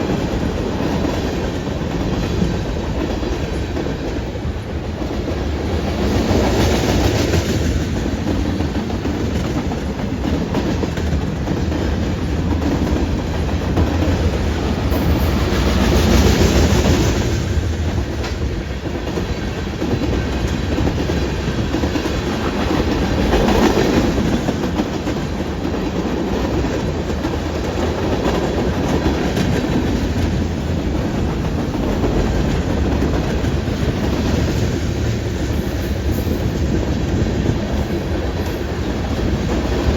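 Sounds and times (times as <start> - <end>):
train wheels rumbling on rail: 0.0 - 39.9
wheels clickety-clack on rail joints: 0.0 - 39.9.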